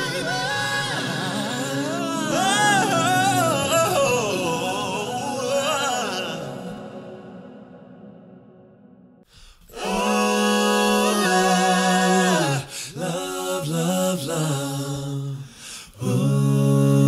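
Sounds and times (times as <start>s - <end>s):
person singing a cappella: 0.0s - 7.5s, 9.6s - 17.0s.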